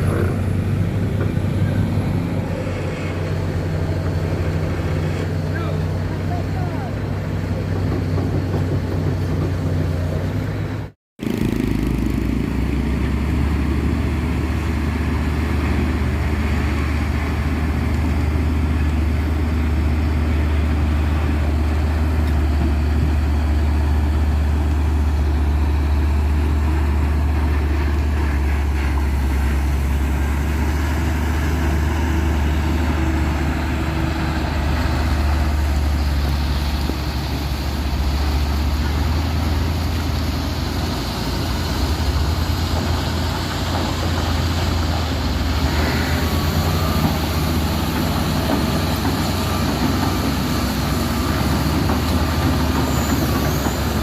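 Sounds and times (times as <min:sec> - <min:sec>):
diesel engine droning under load: 0:00.0 - 0:54.0.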